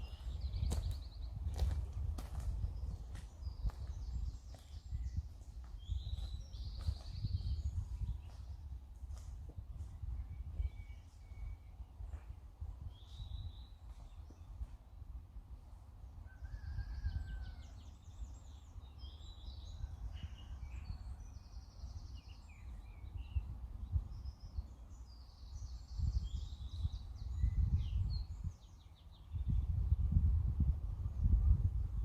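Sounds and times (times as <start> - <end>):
small birds singing and trilling: 0.0 - 15.0, 16.0 - 30.2
wind rumbling on microphone: 0.0 - 32.0.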